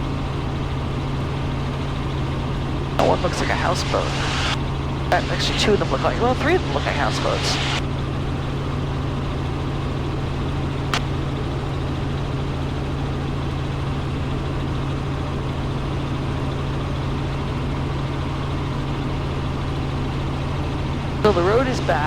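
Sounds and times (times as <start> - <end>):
helicopter engine and rotors droning: 0.0 - 22.0.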